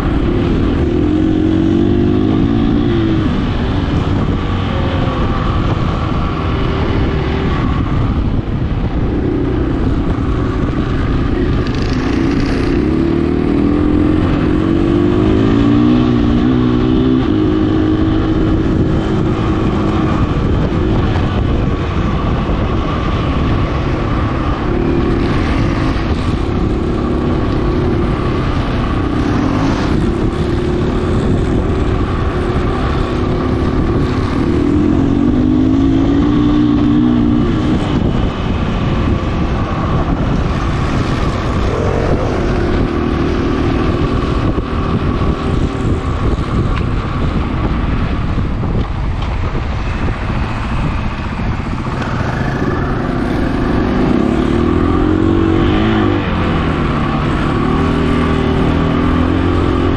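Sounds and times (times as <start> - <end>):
heavy rumble: 0.0 - 59.9.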